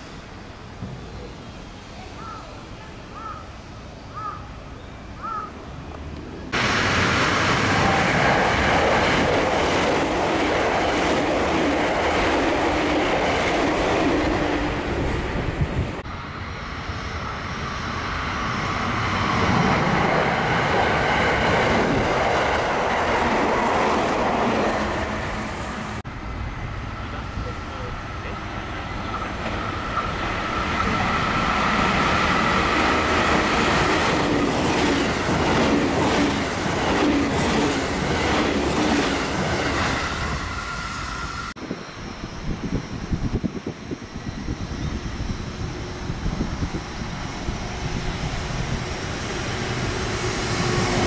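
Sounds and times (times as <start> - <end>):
train passing at speed: 0.0 - 51.0.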